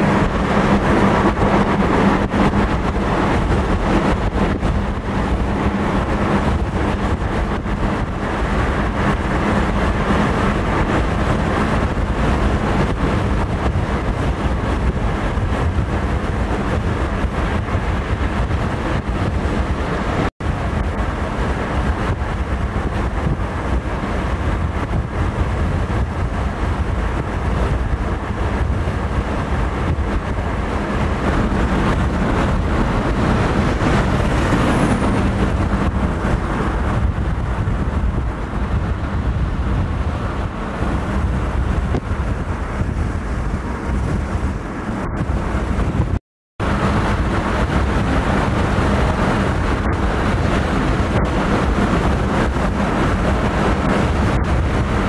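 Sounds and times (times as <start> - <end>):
road traffic rumbling: 0.0 - 55.0.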